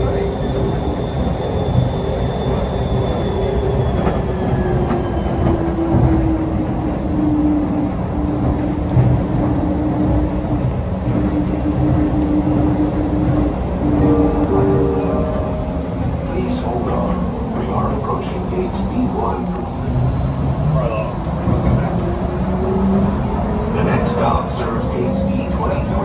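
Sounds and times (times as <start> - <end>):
people-mover train rumble: 0.0 - 26.0.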